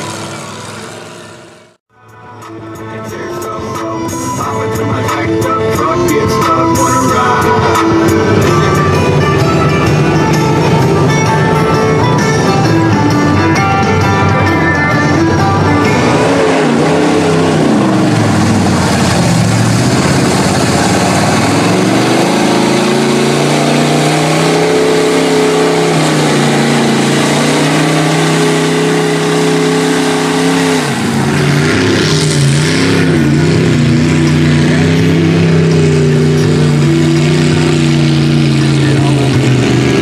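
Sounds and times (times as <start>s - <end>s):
truck engine revving hard: 0.0s - 1.8s, 4.4s - 40.0s.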